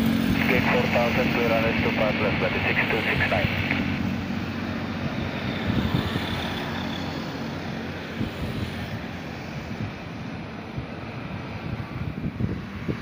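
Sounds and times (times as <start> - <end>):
distant jet airliner engines rumbling: 0.0 - 13.0.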